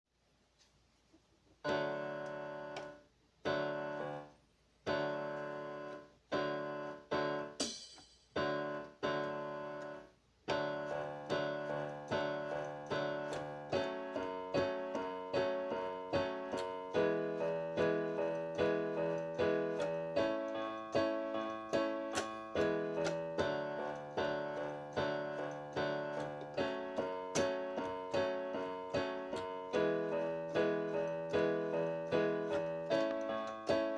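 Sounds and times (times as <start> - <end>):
piano chords: 1.6 - 33.9.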